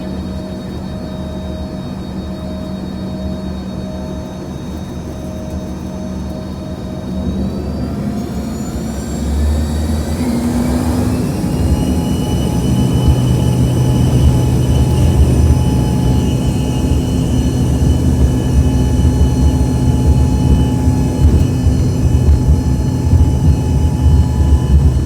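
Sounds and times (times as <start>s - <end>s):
jet engines spooling up: 0.0s - 25.0s.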